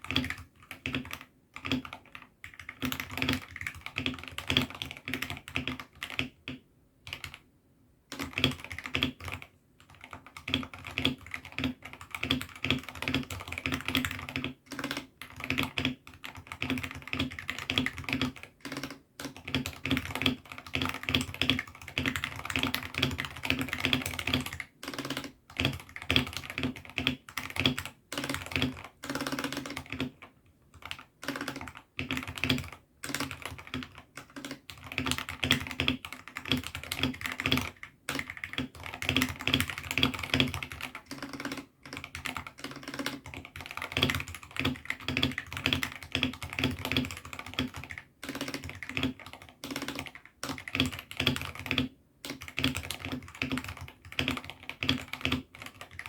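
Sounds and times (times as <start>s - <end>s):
mechanical keyboard typing: 0.0s - 7.4s, 8.1s - 56.0s.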